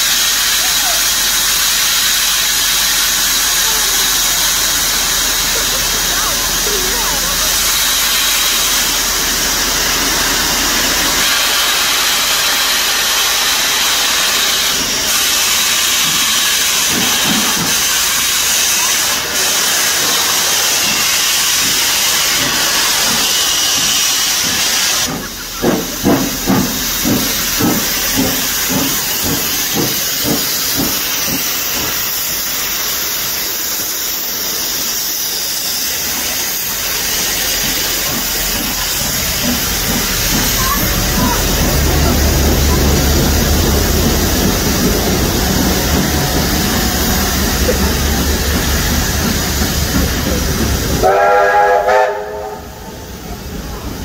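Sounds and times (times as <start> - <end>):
locomotive exhaust chuffs: 0.0 - 54.0
steam locomotive hissing: 0.0 - 54.0.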